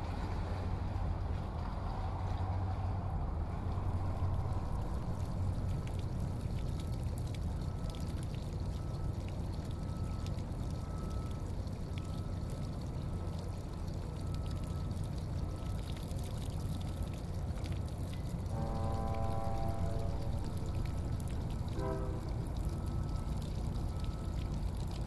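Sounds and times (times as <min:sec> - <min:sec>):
fountain water trickling into pool: 0:00.0 - 0:25.0.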